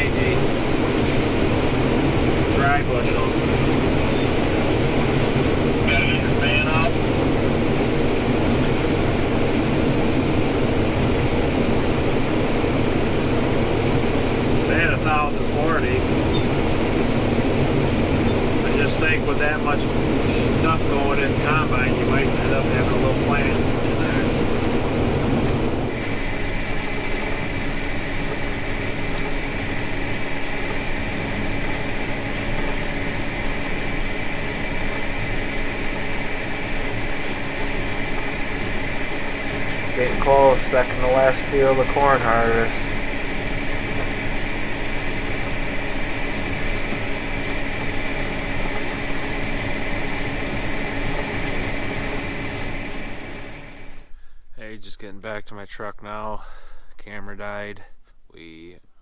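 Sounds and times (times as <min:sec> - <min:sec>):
combine harvester engine droning: 0:00.0 - 0:54.1
high machine whine: 0:00.0 - 0:54.2.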